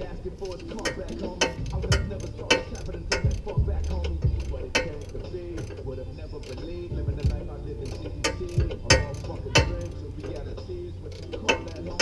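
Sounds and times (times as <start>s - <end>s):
ratchet wrench clicking: 0.0s - 12.0s.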